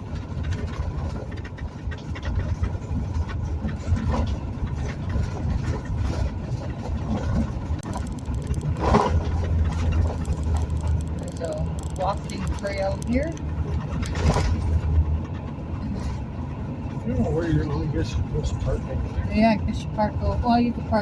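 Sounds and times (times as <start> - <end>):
small rattles: 0.0 - 21.0
vehicle road and engine rumble: 0.0 - 21.0.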